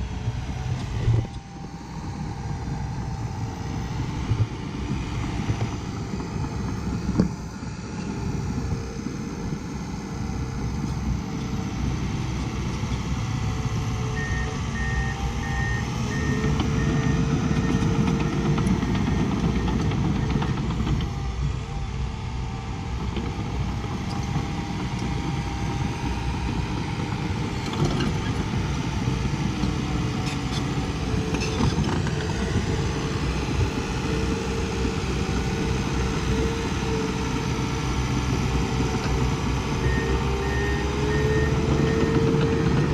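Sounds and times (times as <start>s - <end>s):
heavy diesel machine running: 0.0s - 42.9s.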